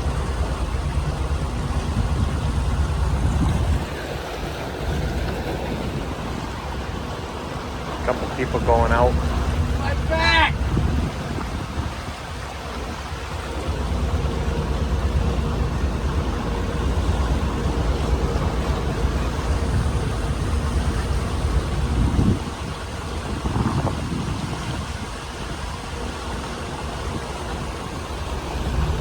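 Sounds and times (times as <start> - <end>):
boat engine rumbling: 0.0 - 29.0
water noise: 0.0 - 29.0
wind: 0.0 - 29.0.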